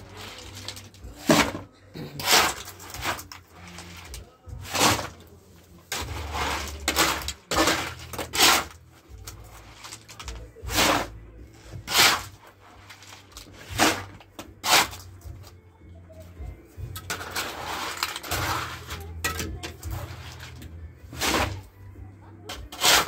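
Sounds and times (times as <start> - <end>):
mortar scraped by hand: 0.0 - 15.1, 17.1 - 19.1, 19.8 - 21.7, 22.6 - 23.0.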